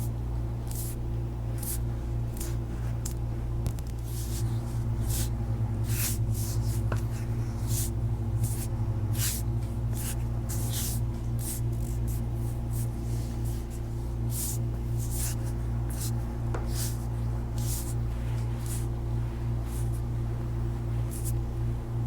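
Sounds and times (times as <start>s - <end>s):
low droning hum: 0.0s - 22.0s.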